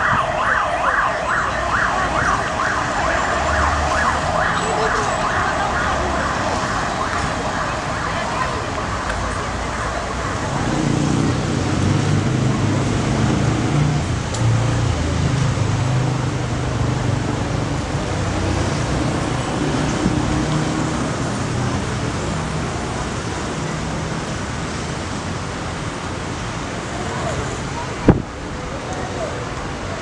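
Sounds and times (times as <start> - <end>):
road traffic hum: 0.0 - 30.0.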